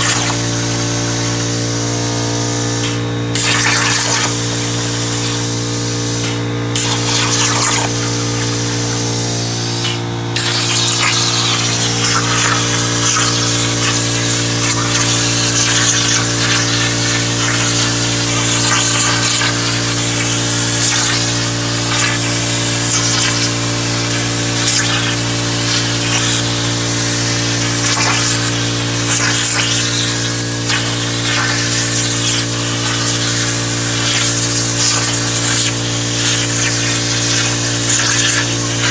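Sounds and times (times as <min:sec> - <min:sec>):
electrical hum: 0:00.0 - 0:38.9
plasma cutter arc hissing: 0:00.0 - 0:38.9.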